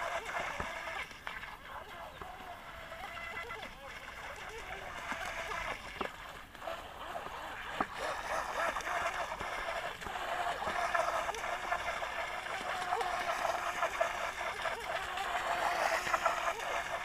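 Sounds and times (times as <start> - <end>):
boat hull splashing through water: 0.0 - 17.0.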